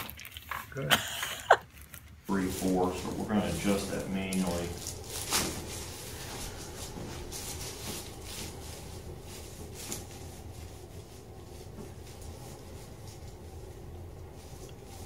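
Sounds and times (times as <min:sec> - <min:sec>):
steady low hum: 0:00.0 - 0:15.0
hands and clothing rustling: 0:01.6 - 0:15.0.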